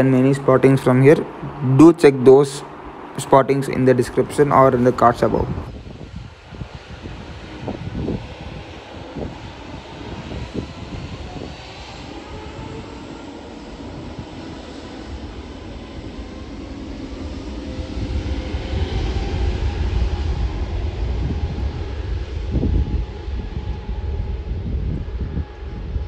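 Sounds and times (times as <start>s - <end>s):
deep rumble: 0.0s - 26.0s
jet engines at takeoff thrust: 0.0s - 26.0s.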